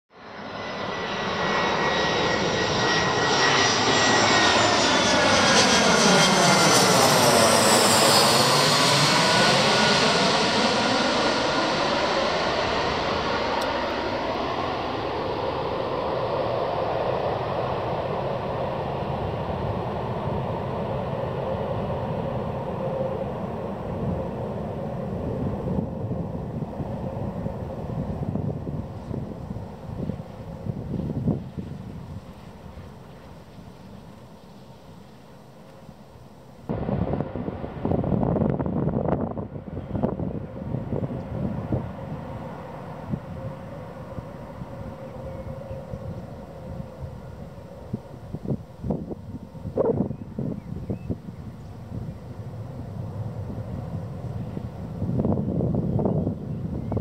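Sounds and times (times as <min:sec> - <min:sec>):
jet airliner passing overhead: 0:00.1 - 0:57.0.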